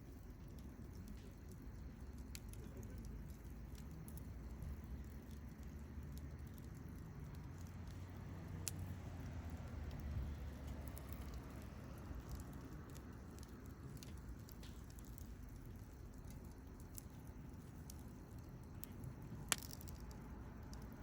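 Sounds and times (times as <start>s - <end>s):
campfire crackling and popping: 0.0s - 21.0s
low steady rumble: 0.0s - 21.0s.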